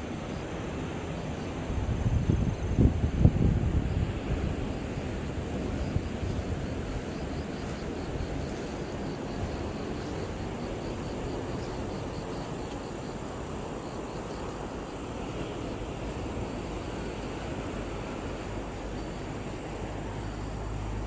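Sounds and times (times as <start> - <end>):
sea wind and surf rumble: 0.0 - 21.0
insect chirping: 0.1 - 21.0.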